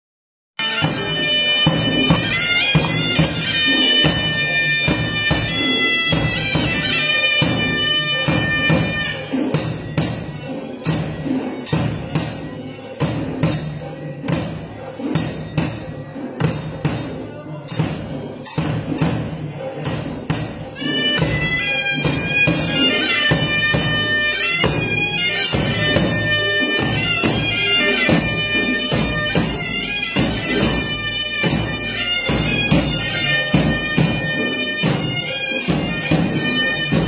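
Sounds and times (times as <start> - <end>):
drums beating a steady rhythm: 0.6 - 37.0
reedy shawm melody: 0.6 - 37.0.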